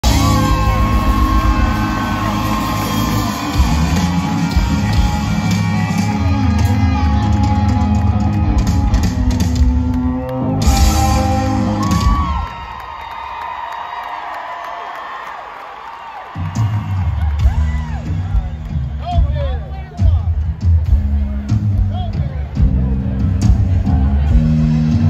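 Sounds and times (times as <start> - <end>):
live rock country band: 0.0 - 12.8, 16.5 - 25.0.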